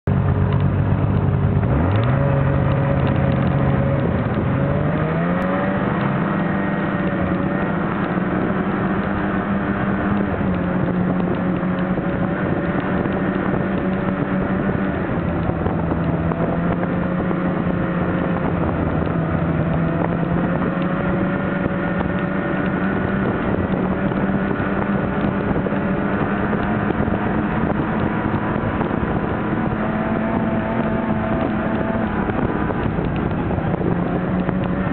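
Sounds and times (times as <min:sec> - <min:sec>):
snowmobile engine running: 0:00.0 - 0:34.9.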